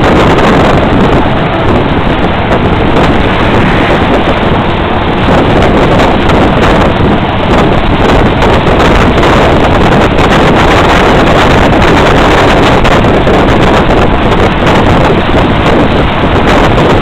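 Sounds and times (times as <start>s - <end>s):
road noise: 0.0s - 17.0s
vehicle engine: 0.0s - 17.0s
wind buffeting microphone: 0.0s - 17.0s.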